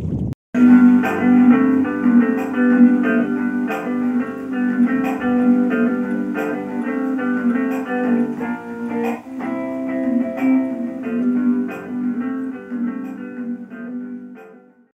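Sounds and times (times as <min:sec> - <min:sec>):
guitar background music: 0:00.6 - 0:14.9.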